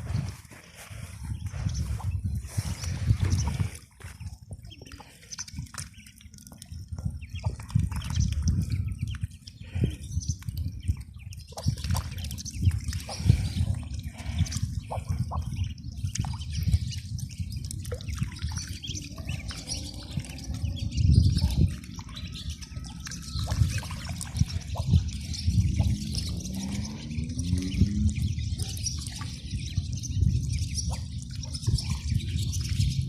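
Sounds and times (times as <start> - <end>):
water splashing and dripping: 0.0 - 33.0.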